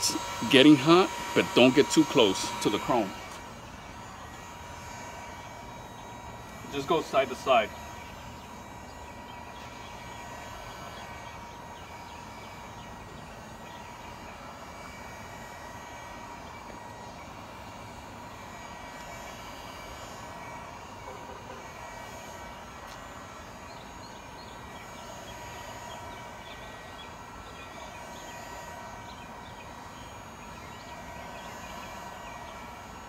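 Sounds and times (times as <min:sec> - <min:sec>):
constant high tones: 0:00.0 - 0:33.0
outdoor background hum: 0:00.0 - 0:33.0.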